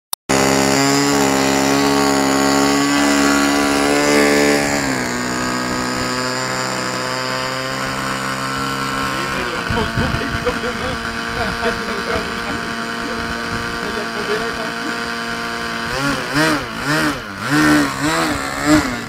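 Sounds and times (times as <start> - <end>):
model airplane engine buzzing: 0.3 - 19.0.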